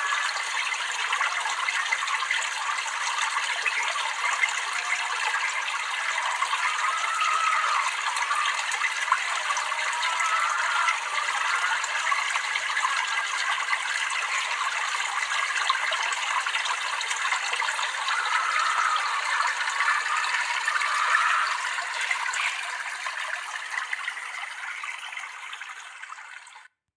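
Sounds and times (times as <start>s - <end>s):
water trickling and gurgling: 0.0s - 26.8s.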